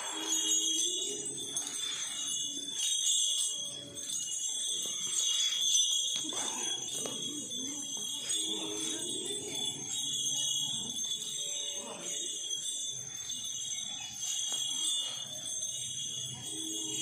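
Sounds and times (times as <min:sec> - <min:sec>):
elephant bells jingling: 0:00.0 - 0:17.0.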